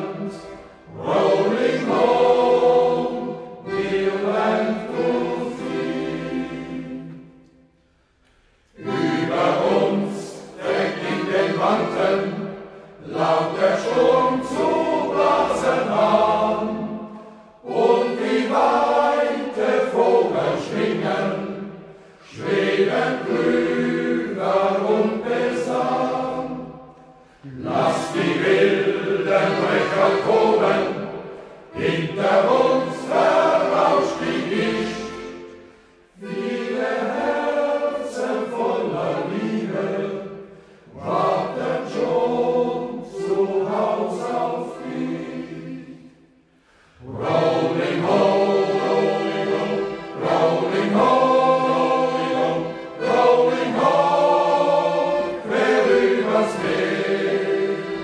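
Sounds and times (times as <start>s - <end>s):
men's choir singing slow song: 0.0s - 7.5s, 8.7s - 58.0s.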